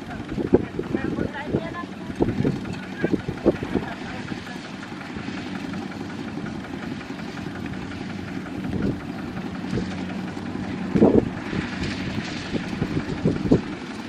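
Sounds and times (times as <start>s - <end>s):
wind on microphone: 0.0s - 5.4s, 6.4s - 14.0s
diesel engine running: 0.0s - 14.0s.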